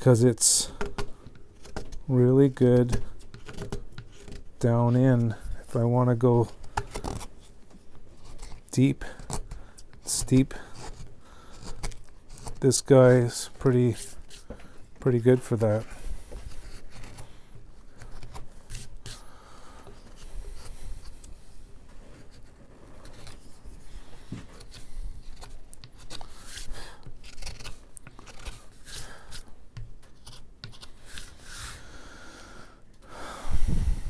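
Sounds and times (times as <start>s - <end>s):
knife scraping wood: 0.6s - 7.6s, 8.2s - 32.0s.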